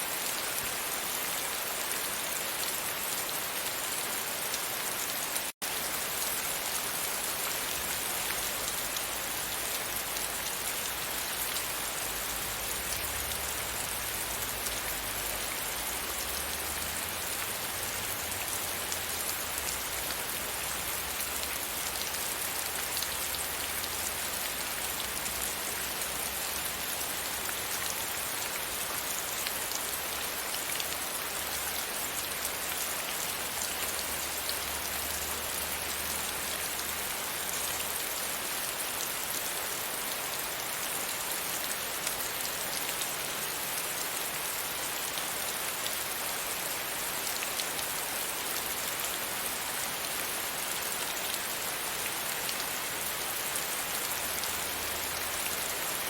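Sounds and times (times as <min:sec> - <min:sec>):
rain on a window: 0:00.1 - 0:56.0.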